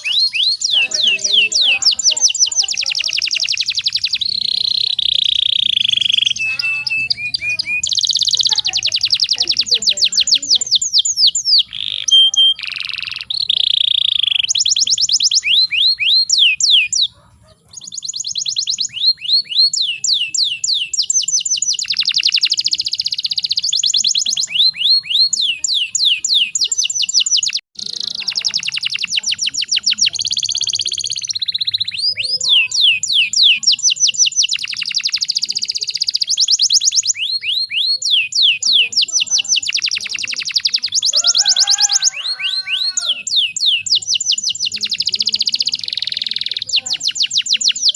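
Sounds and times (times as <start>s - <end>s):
canary singing trills: 0.0s - 47.9s.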